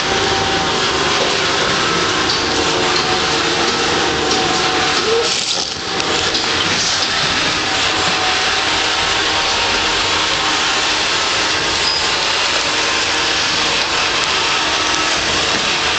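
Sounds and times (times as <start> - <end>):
vacuum cleaner running: 0.0 - 15.9.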